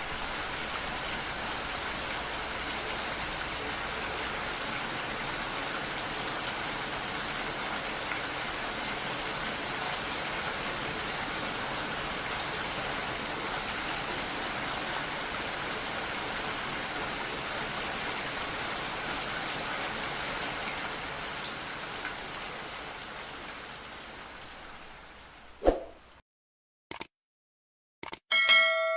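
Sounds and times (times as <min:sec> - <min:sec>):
steady rain falling: 0:00.0 - 0:26.2.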